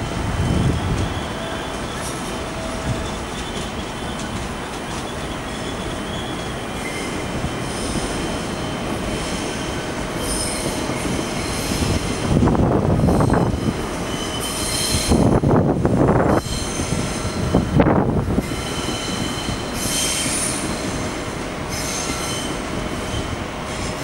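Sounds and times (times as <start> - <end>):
train wheels squealing: 0.0 - 12.3, 13.0 - 15.4, 16.2 - 17.7, 18.4 - 24.0
train rumbling on rails: 0.0 - 24.0.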